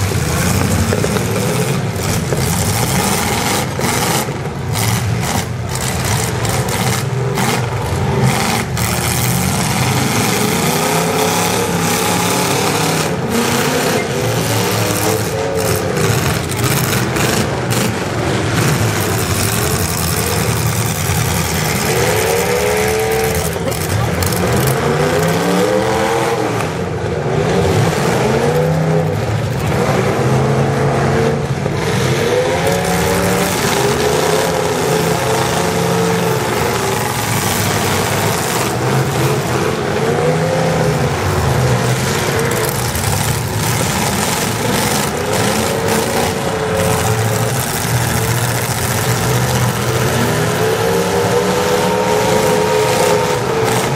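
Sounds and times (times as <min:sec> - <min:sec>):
car engines revving hard: 0:00.0 - 0:53.9
loud engine rumble: 0:00.0 - 0:53.9.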